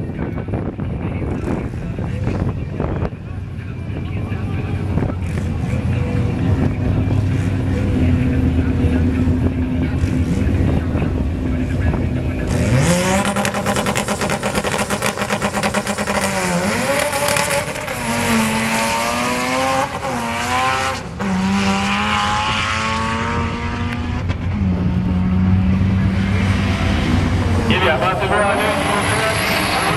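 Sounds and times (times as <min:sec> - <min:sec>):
race engine revving at full throttle: 0:00.0 - 0:29.9.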